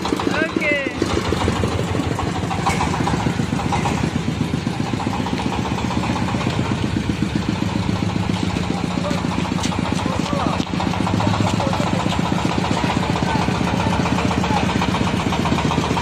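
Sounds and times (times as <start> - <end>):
threshing machine engine running: 0.0 - 16.0.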